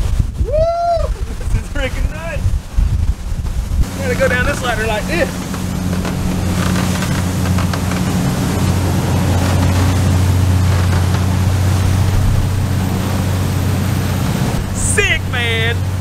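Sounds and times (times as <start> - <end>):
wake rushing: 0.0 - 16.0
wind: 0.0 - 16.0
boat engine drone: 1.1 - 16.0.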